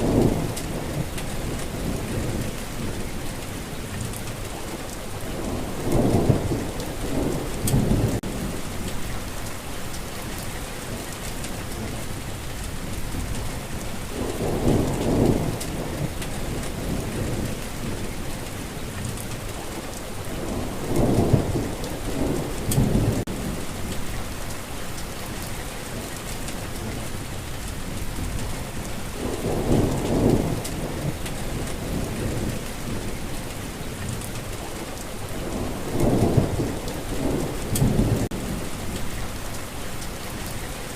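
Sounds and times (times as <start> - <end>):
thunder rumbling: 0.0 - 4.4, 5.2 - 9.7, 11.3 - 24.5, 26.2 - 40.9
steady rain falling: 0.0 - 40.9.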